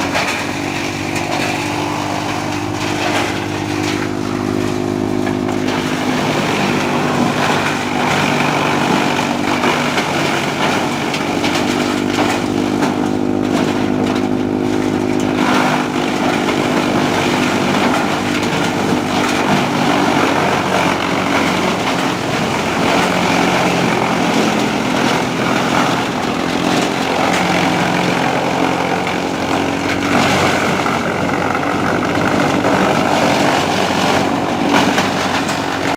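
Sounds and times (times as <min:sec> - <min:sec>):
tractor diesel engine running: 0:00.0 - 0:35.9
wood chipper grinding: 0:00.0 - 0:35.9.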